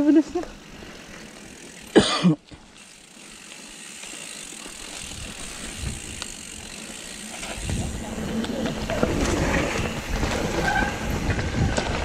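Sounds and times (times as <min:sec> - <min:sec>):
tyre and trail noise: 0:00.0 - 0:12.0
bicycle freehub ratcheting: 0:00.6 - 0:11.2.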